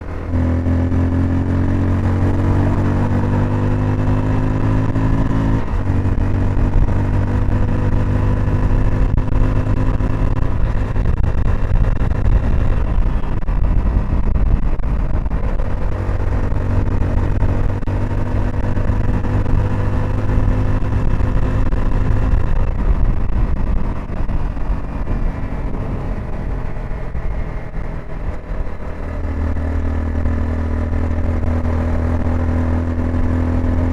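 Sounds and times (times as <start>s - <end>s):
motorcycle engine and exhaust: 0.0s - 33.9s.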